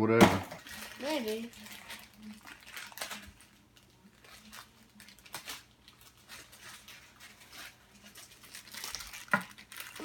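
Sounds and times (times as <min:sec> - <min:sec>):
cardboard and foil tearing: 0:00.5 - 0:10.0.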